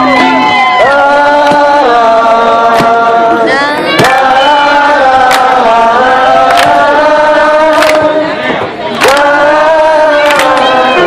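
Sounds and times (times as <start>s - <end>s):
many voices singing together: 0.0s - 11.0s.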